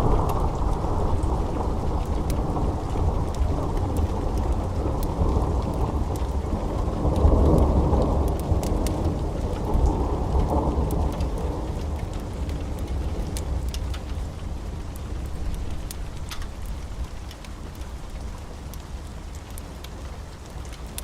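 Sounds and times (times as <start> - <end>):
thunder rumbling: 0.0 - 17.2
faint fireplace crackles: 0.0 - 21.0
steady rain: 0.0 - 21.0.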